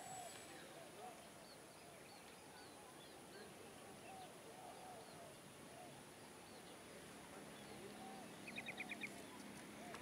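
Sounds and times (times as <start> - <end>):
faint bird calls: 0.0 - 10.0.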